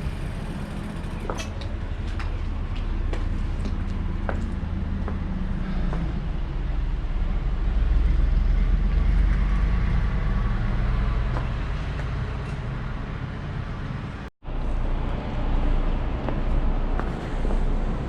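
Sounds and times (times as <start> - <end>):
vehicle and road rumble: 0.0 - 18.0.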